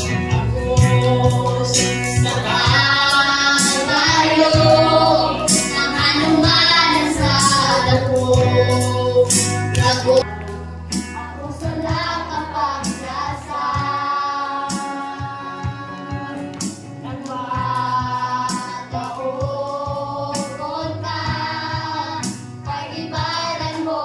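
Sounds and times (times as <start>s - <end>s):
group singing worship song: 0.0s - 24.0s.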